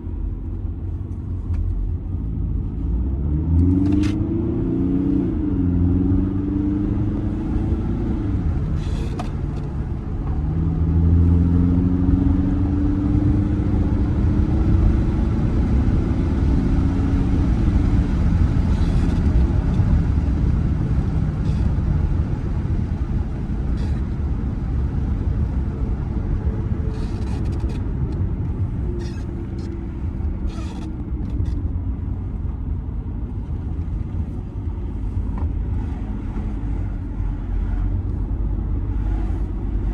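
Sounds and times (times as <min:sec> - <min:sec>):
diesel car engine: 0:00.0 - 0:39.9
road rumble: 0:00.0 - 0:39.9.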